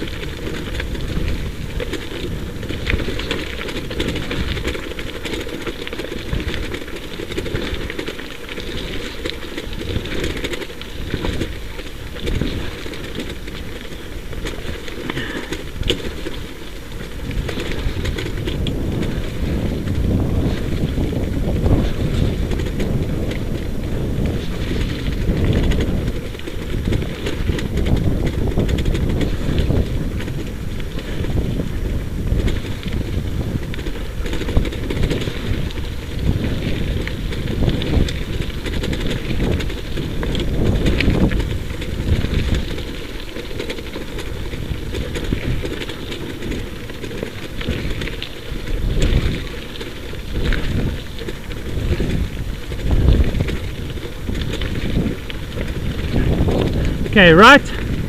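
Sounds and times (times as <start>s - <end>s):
wheeled rig rattling over dirt: 0.0s - 58.0s
wind rumbling on microphone: 0.0s - 58.0s.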